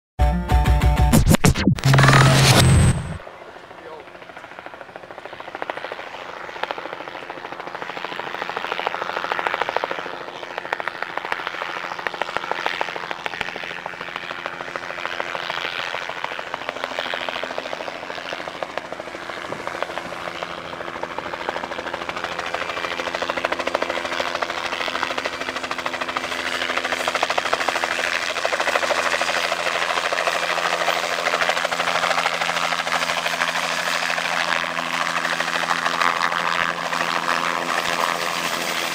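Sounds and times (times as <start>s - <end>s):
helicopter rotor beat: 0.8s - 38.9s.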